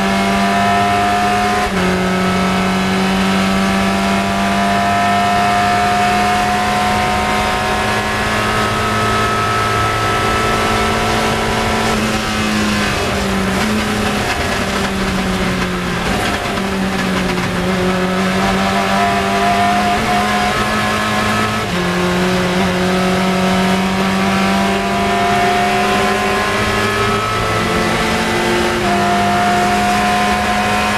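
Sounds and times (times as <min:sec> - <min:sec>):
racing car engine at high revs: 0:00.0 - 0:30.9.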